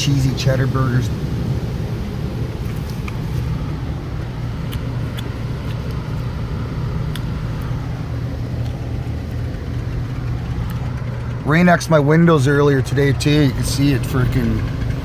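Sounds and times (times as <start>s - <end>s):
car wash low hum: 0.0s - 15.0s.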